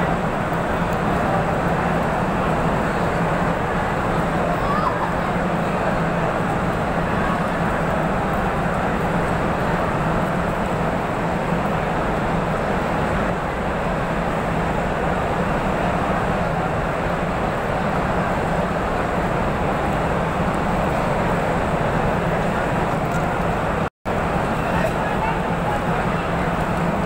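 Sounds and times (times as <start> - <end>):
crowd hubbub: 0.0 - 27.0.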